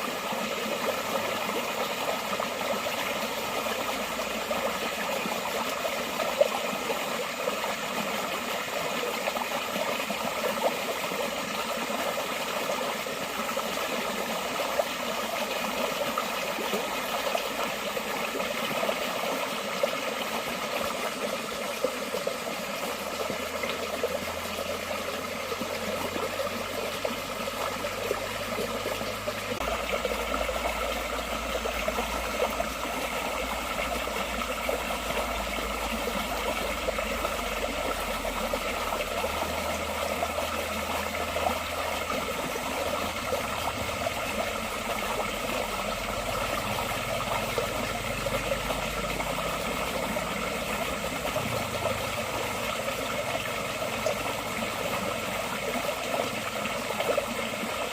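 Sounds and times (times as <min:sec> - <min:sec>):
stream flowing over stones: 0:00.0 - 0:57.9.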